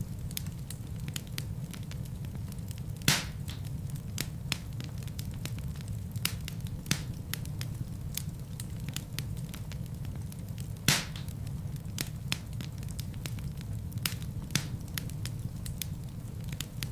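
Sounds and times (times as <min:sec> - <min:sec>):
logs crackling and popping: 0:00.0 - 0:16.9
wood fire burning: 0:00.0 - 0:16.9.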